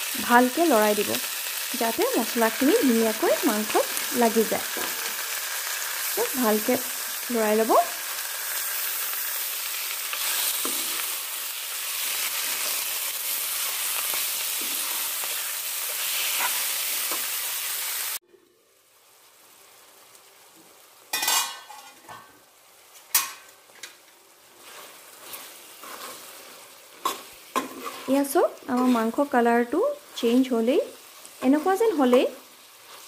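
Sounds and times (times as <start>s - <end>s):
meat sizzling in a pan: 0.0s - 33.0s.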